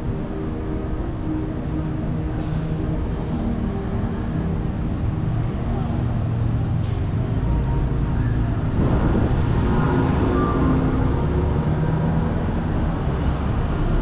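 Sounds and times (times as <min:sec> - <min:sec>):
low engine hum: 0:00.0 - 0:14.0
road vehicles passing: 0:00.0 - 0:14.0.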